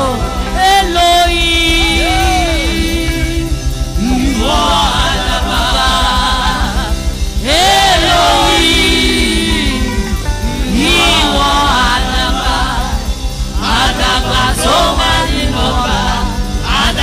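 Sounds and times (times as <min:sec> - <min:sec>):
band playing: 0:00.0 - 0:17.0
steady drum beat: 0:00.0 - 0:17.0
women singing worship: 0:00.0 - 0:17.0.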